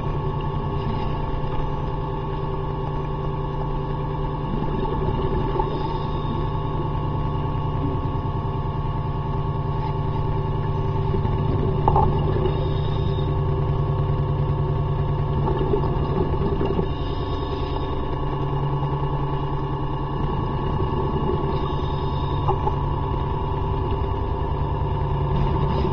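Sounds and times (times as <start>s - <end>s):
underwater boat propeller drone: 0.0s - 25.9s.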